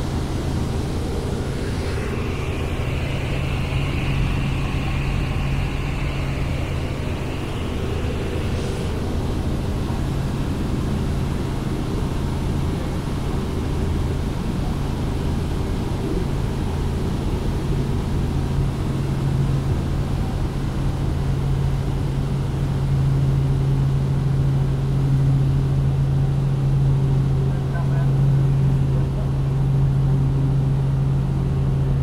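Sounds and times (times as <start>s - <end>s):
helicopter cabin drone: 0.0s - 32.0s.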